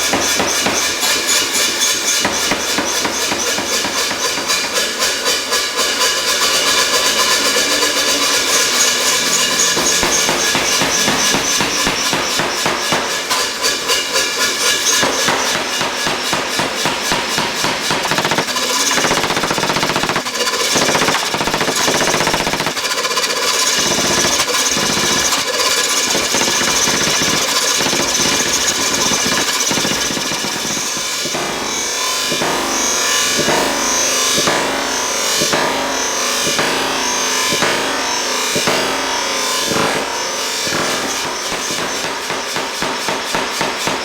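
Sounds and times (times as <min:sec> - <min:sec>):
power hammer pounding steel: 0:00.0 - 0:44.0.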